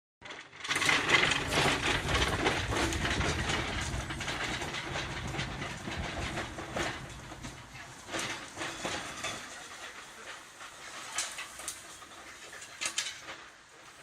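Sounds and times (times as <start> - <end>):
clanks and clicks: 0.2 - 14.0
wagon wheels rolling on rails: 0.2 - 14.0.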